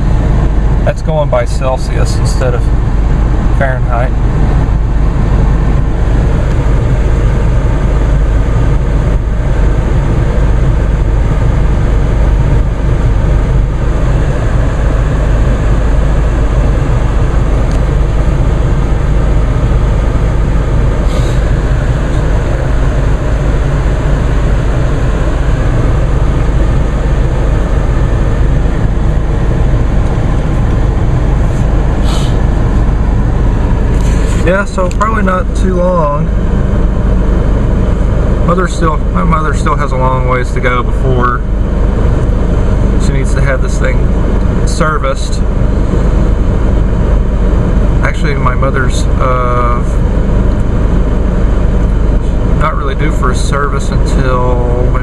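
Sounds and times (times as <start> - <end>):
diesel engine idling: 0.0 - 55.0
heater blower air rush: 0.0 - 55.0.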